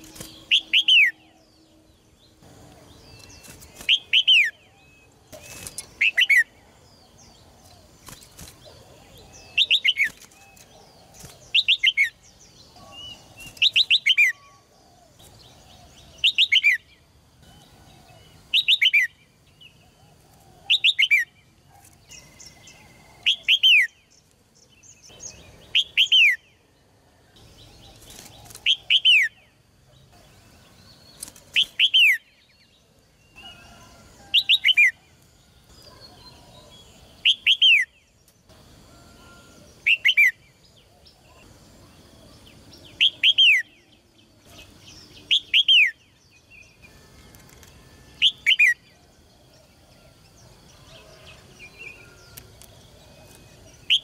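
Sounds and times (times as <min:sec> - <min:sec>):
bird singing whistled notes: 0:00.0 - 0:07.4, 0:09.0 - 0:21.5, 0:22.1 - 0:26.8, 0:30.5 - 0:35.1, 0:35.8 - 0:38.2, 0:38.9 - 0:41.5, 0:42.4 - 0:44.0, 0:44.8 - 0:50.0, 0:50.7 - 0:54.0.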